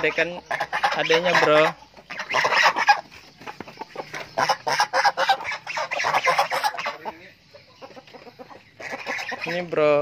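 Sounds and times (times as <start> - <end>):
chickens clucking and squawking: 0.0 - 10.0.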